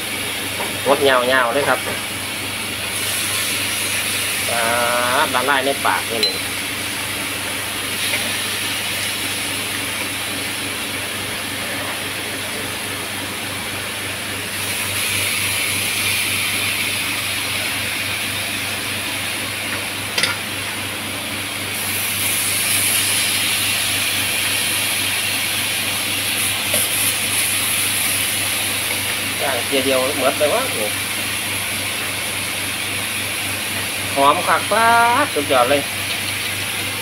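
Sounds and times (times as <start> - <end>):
meat sizzling on grill pan: 2.7 - 11.2, 14.4 - 20.7, 21.7 - 37.0.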